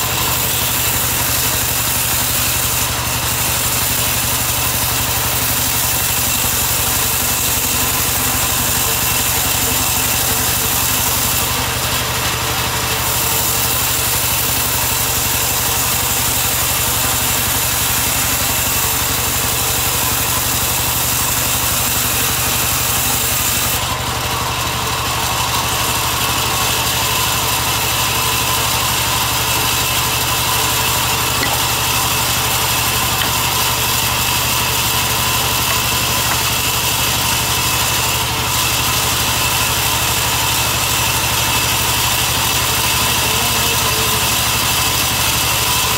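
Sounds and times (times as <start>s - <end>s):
band saw cutting wood: 0.0s - 45.9s.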